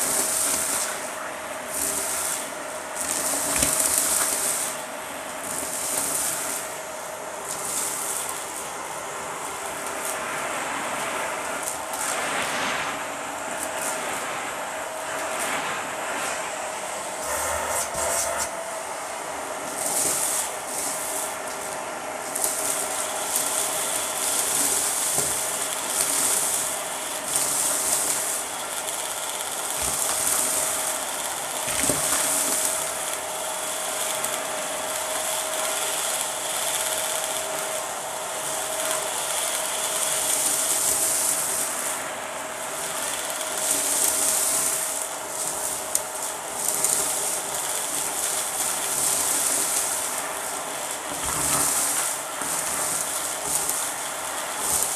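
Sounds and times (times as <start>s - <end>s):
vacuum airflow hiss: 0.0s - 54.9s
vacuum motor whine: 0.0s - 54.9s.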